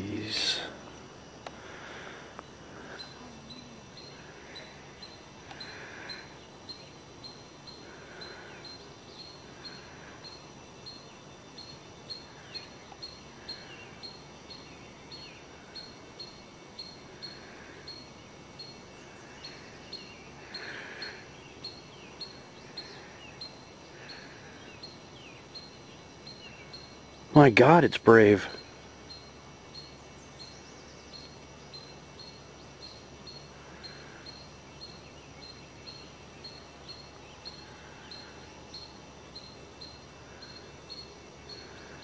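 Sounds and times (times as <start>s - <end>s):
soft bird calls: 0.0s - 42.0s
steady hiss: 0.0s - 42.0s.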